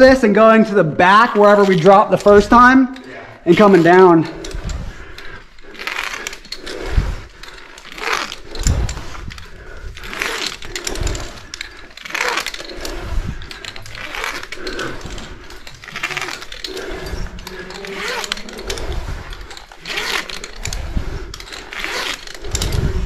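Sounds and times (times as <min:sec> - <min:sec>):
gear rattling: 0:00.0 - 0:23.0
rope ascenders sliding and gripping: 0:00.0 - 0:23.0.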